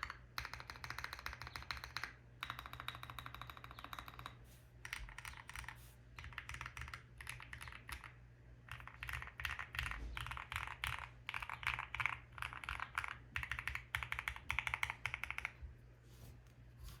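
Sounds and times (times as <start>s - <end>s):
mechanical keyboard typing: 0.0s - 15.6s.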